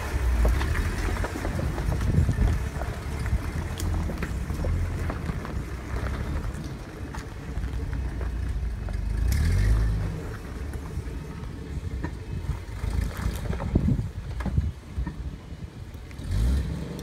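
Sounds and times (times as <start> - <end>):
car engine crawling: 0.0 - 17.0.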